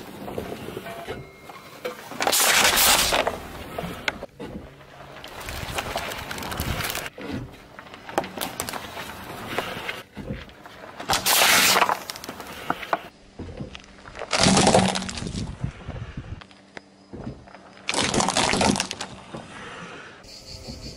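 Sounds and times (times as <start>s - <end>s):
car tyre crushing objects: 1.8s - 16.0s, 17.2s - 20.0s.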